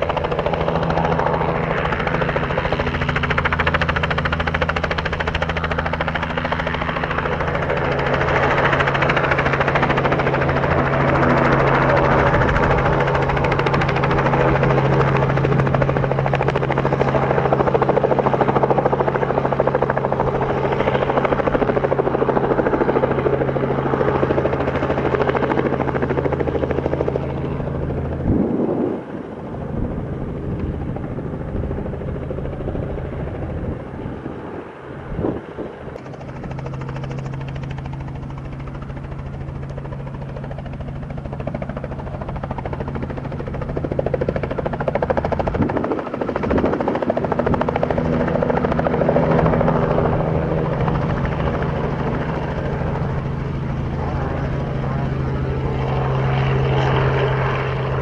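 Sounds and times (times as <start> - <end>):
helicopter hovering drone: 0.0 - 58.0.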